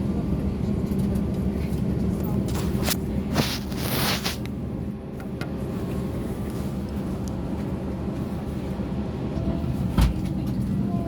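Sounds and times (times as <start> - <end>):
airliner cabin hum: 0.0 - 11.0.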